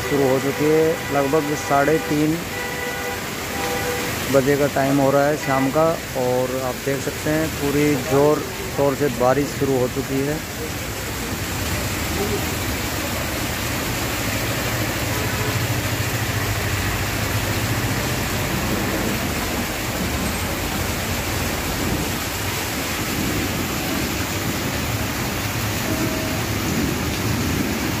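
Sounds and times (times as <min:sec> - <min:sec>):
heavy rain on street: 0:00.0 - 0:28.0.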